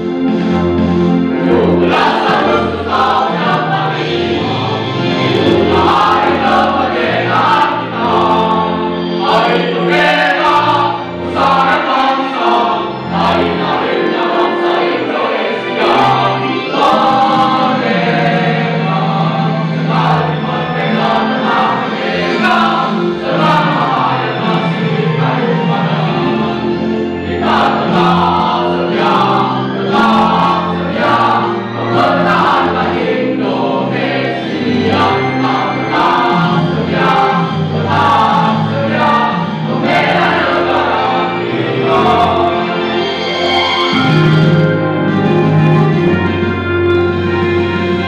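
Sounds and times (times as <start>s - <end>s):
mixed choir singing: 0.0s - 48.0s.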